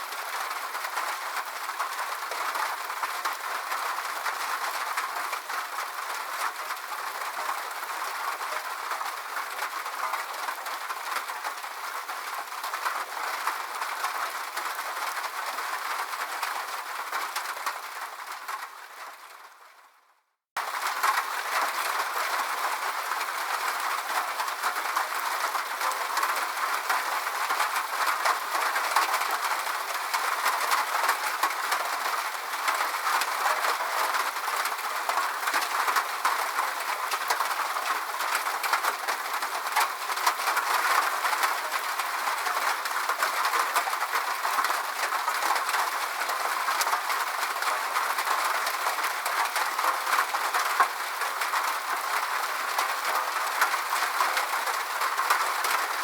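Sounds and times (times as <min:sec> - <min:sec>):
steady rain hissing: 0:00.0 - 0:19.8, 0:20.6 - 0:56.0.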